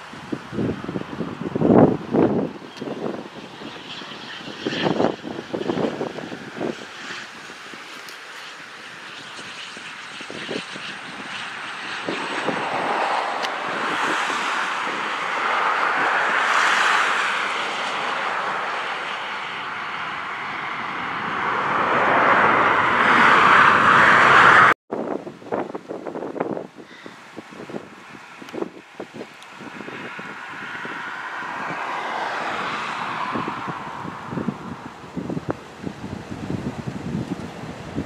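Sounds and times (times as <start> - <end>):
jet engines whining: 0.0 - 24.8, 26.9 - 36.8
wind buffeting microphone: 0.0 - 38.0.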